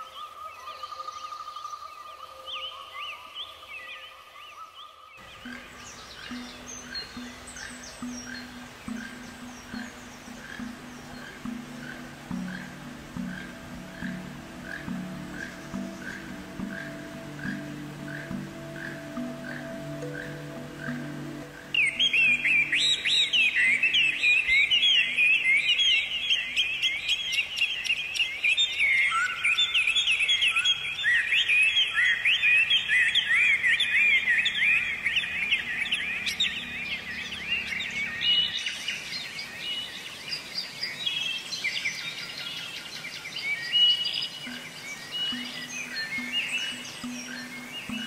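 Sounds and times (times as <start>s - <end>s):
faint background music: 0.0s - 40.4s, 42.8s - 48.0s
small birds chirping: 0.0s - 48.0s.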